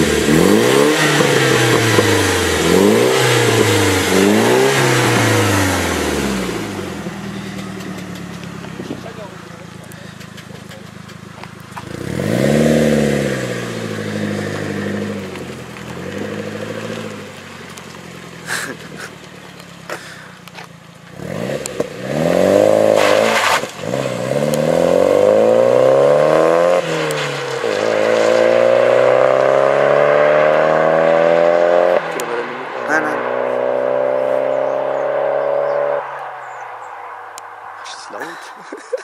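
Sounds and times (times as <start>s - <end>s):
car engine revving and accelerating: 0.0s - 20.2s, 20.9s - 38.1s.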